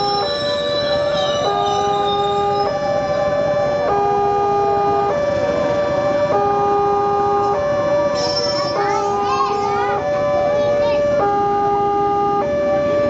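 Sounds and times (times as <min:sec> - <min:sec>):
level crossing two-tone alarm: 0:00.0 - 0:13.0
train passing slowly: 0:00.0 - 0:13.0.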